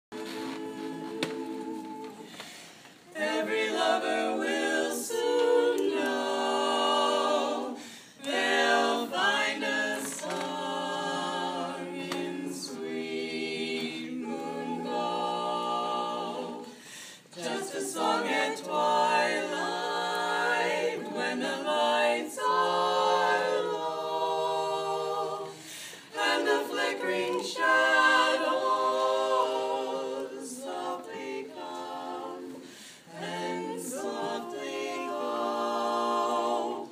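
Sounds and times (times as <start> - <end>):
women singing a cappella: 0.1 - 36.9.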